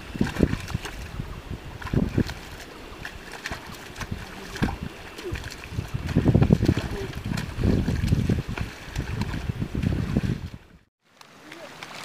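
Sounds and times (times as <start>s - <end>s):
muddy water sloshing and splashing: 0.0s - 12.0s
steady wet rustle: 0.0s - 12.0s.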